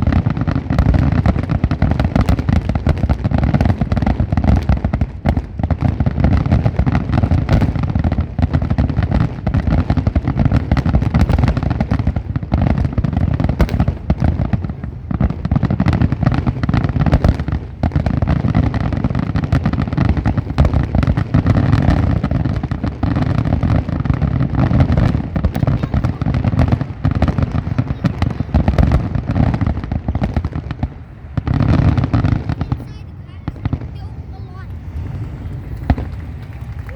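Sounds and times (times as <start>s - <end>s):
fireworks bursts and crackling: 0.0s - 36.9s.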